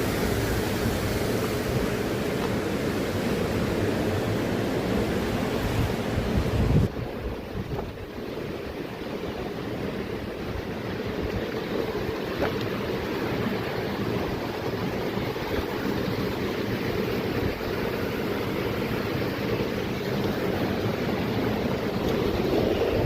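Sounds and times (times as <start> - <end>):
flowing water rushing: 0.0 - 23.0
wind buffeting microphone: 0.0 - 23.0.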